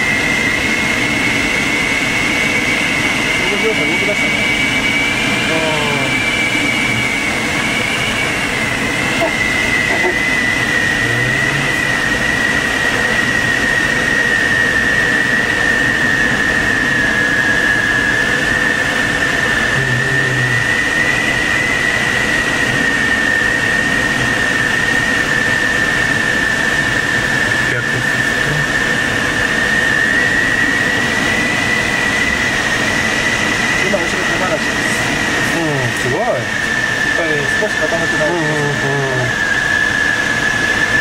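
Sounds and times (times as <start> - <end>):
air rushing around glider cockpit: 0.0 - 41.0
continuous high tone: 0.0 - 41.0.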